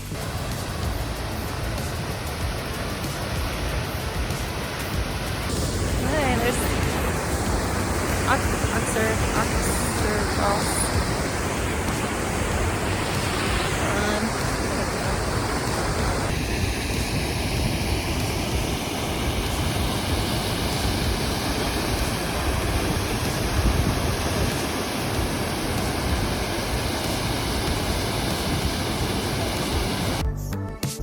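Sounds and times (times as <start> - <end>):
waterfall rushing: 0.0 - 30.2.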